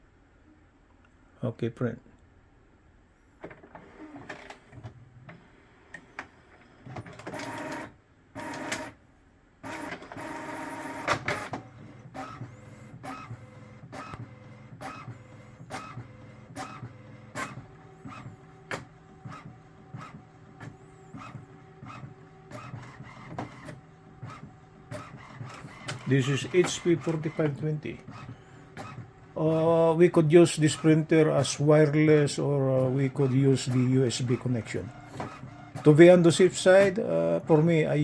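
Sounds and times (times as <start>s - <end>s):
printer motors whirring: 3.4s - 9.0s, 9.6s - 38.0s
print carriage clicking: 6.8s - 8.9s, 9.6s - 38.0s.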